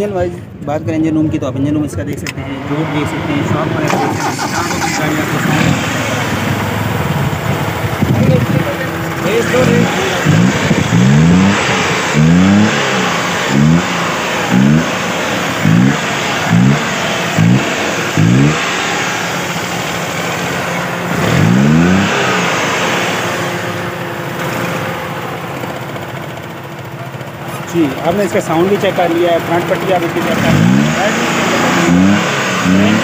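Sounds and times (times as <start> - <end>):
engine revving and idling: 2.0 - 33.0.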